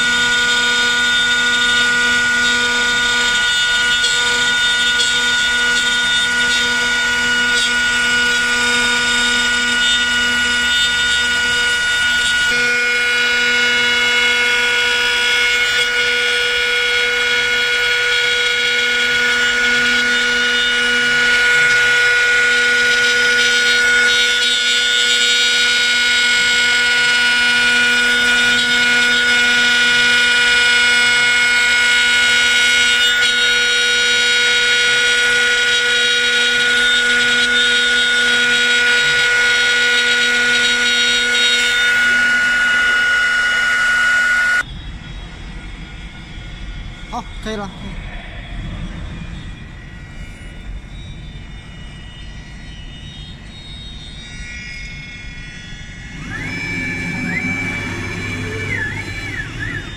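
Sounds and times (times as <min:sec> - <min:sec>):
bit carving wood: 0:00.0 - 0:44.6, 0:56.0 - 0:59.9
router spindle high whine: 0:00.0 - 0:59.9.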